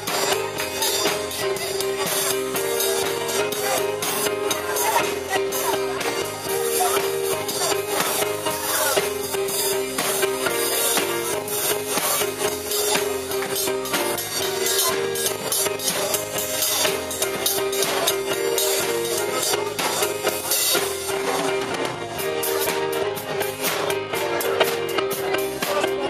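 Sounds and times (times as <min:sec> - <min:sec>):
live church band music: 0:00.0 - 0:26.0.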